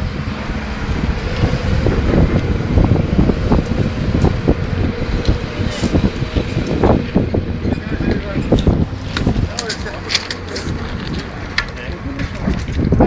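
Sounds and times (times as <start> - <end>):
loud rushing with crackles and pops: 0.0 - 13.0.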